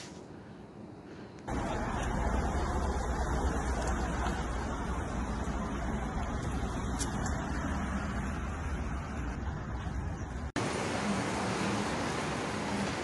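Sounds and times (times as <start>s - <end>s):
hissy street ambience: 0.0s - 13.0s
low rumble of passing cars: 0.4s - 13.0s.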